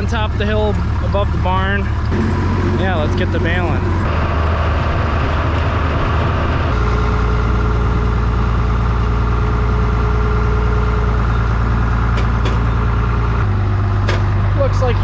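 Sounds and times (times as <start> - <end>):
tractor engine running: 0.0 - 15.0
thin steady whine: 2.2 - 15.0.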